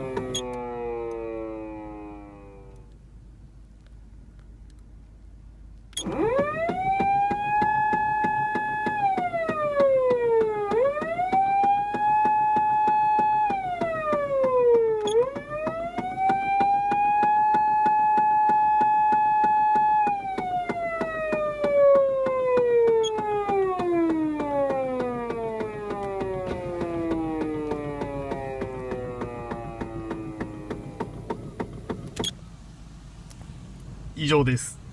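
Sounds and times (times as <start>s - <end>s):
electronic police siren wailing: 0.0s - 2.9s, 6.0s - 31.2s.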